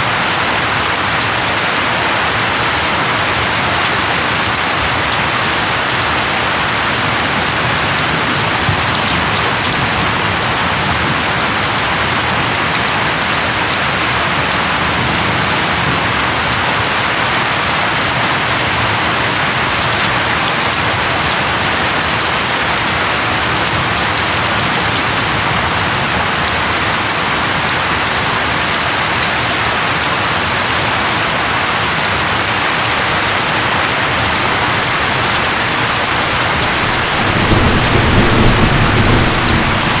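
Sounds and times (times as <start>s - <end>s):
rain pattering: 0.0s - 40.0s.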